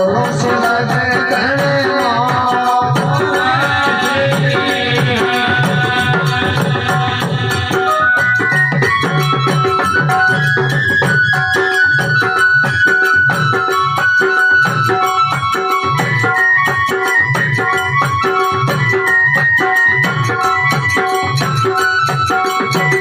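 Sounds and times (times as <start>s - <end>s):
hand drum beat: 0.0s - 23.0s.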